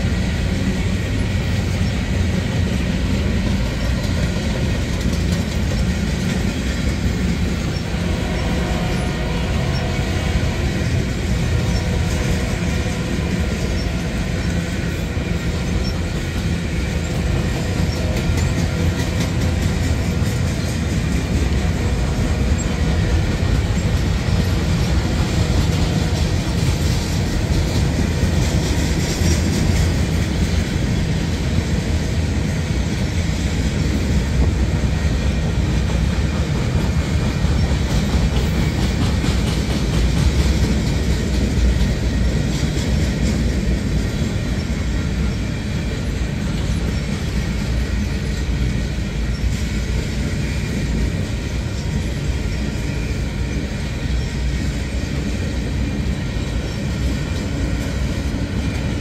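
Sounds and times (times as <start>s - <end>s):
train wheels rumbling on rails: 0.0s - 59.0s
clicking over rail joints: 0.1s - 59.0s.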